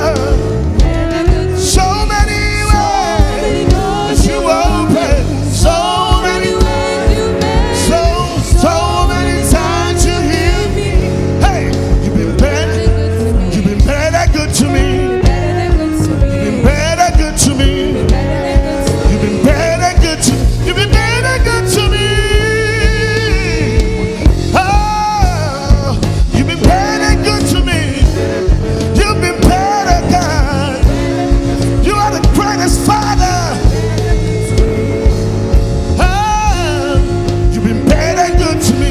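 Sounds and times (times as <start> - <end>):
drumbeat: 0.0 - 38.9
person singing: 0.0 - 38.9
worship band playing: 0.0 - 38.9.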